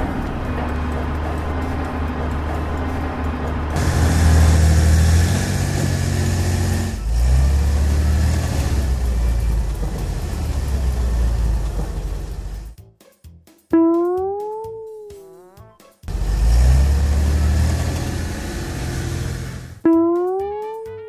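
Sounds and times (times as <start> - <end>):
cartoon heavy vehicle engine hum: 0.0 - 12.8, 13.8 - 21.0.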